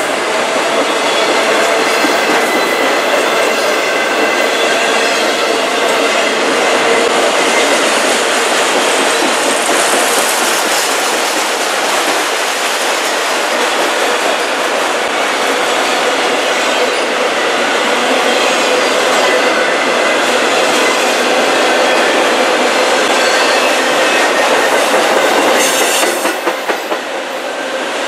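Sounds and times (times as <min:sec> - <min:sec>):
steel train wheels on rails: 0:00.0 - 0:28.0.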